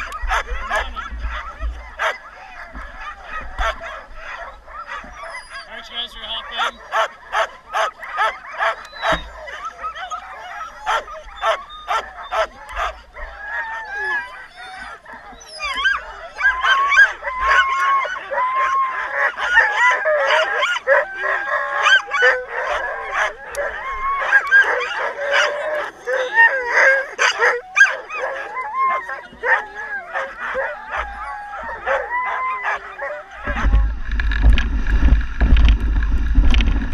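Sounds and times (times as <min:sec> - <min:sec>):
dogs yelping and howling: 0:00.0 - 0:33.9
dogs barking: 0:00.0 - 0:35.1.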